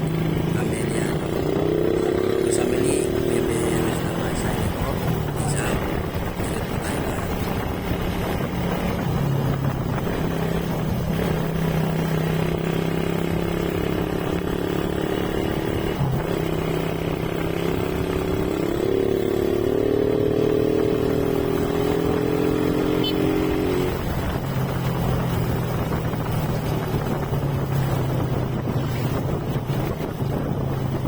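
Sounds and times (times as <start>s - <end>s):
motorcycle engine accelerating: 0.0s - 31.0s
road noise: 0.0s - 31.0s.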